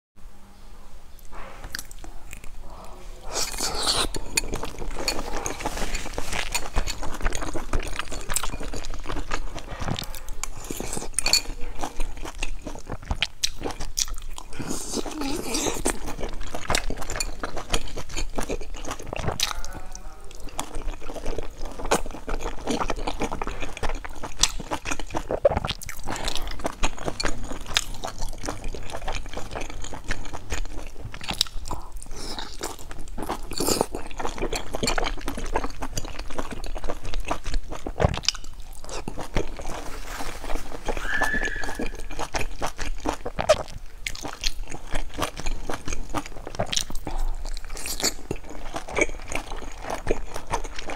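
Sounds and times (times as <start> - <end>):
person chewing food: 1.2 - 50.9.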